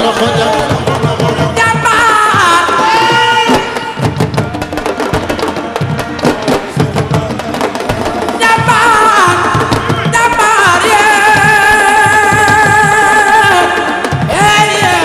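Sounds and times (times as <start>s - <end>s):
drums playing: 0.0s - 15.0s.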